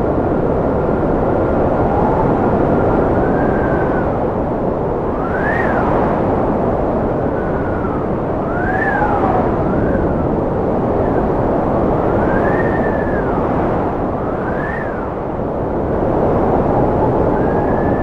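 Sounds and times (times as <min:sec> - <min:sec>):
strong wind howling: 0:00.0 - 0:18.0.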